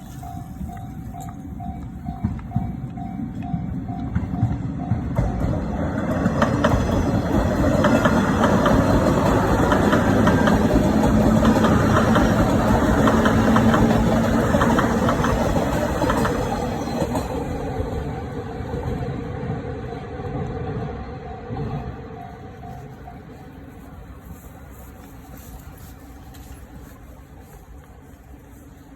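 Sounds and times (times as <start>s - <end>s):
crossing warning bell ringing: 0.0s - 26.8s
train hum: 0.0s - 28.9s
train wheels clacking: 0.0s - 28.9s.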